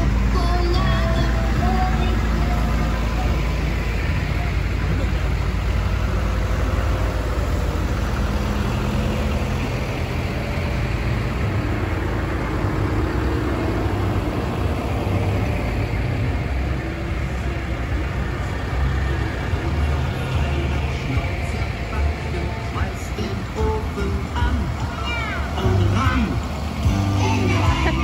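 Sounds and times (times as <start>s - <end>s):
tractor diesel engines passing: 0.0s - 28.0s.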